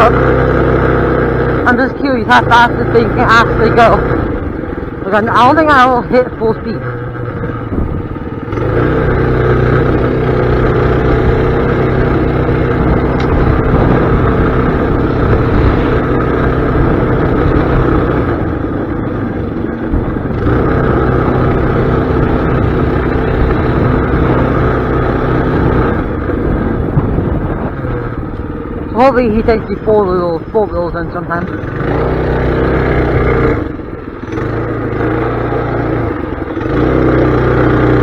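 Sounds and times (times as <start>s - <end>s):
mini bike engine revving: 0.0s - 38.0s.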